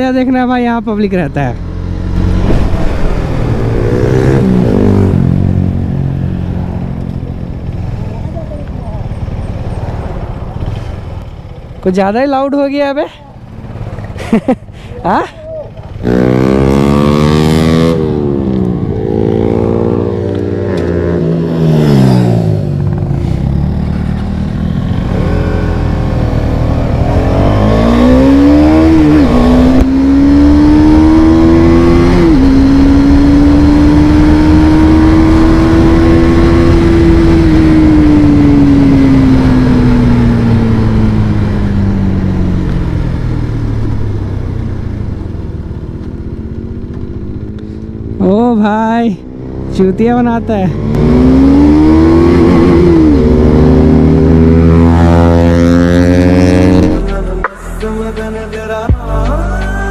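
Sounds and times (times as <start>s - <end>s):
motorcycle engine revving: 0.0s - 15.1s, 15.7s - 57.5s.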